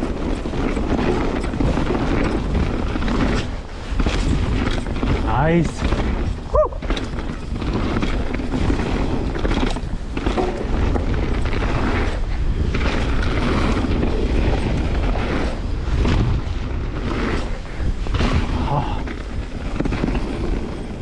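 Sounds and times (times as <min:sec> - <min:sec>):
tyres rumbling on dirt trail: 0:00.0 - 0:21.0
wind rushing over microphone: 0:00.0 - 0:21.0.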